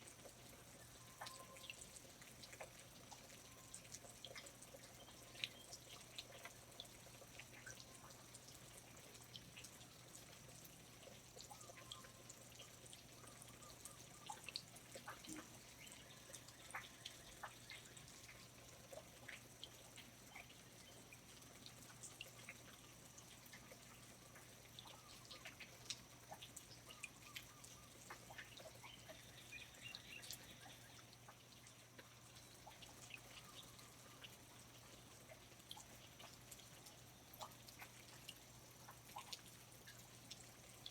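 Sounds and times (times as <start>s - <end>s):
water dripping: 0.0s - 40.9s.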